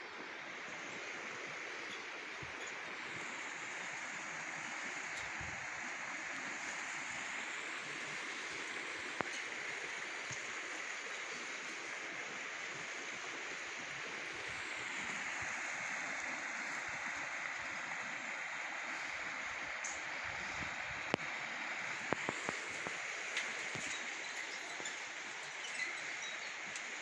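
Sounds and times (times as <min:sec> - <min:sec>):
flowing creek water: 0:00.0 - 0:27.0.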